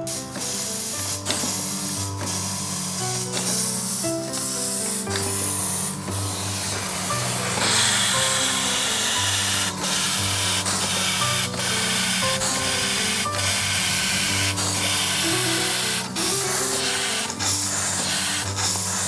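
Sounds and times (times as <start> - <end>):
background music: 0.0 - 19.0
steam hissing: 0.0 - 19.0.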